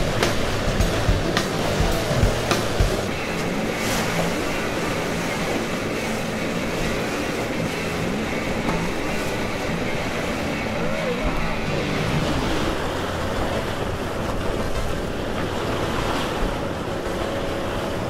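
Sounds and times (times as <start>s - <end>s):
water rushing past hull: 0.0s - 18.0s.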